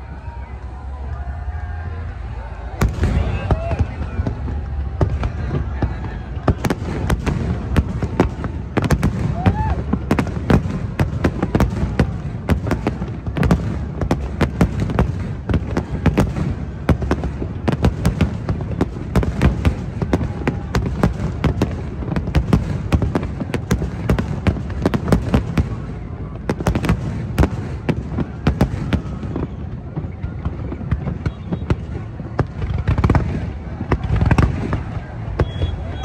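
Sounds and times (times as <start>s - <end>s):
firework bangs and crackles: 0.0s - 36.0s.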